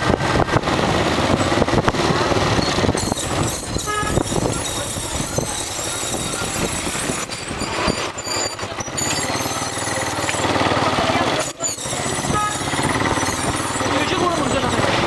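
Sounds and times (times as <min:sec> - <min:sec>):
small motorbike engine: 0:00.0 - 0:15.0
street noise: 0:00.0 - 0:15.0
voices: 0:02.7 - 0:15.0.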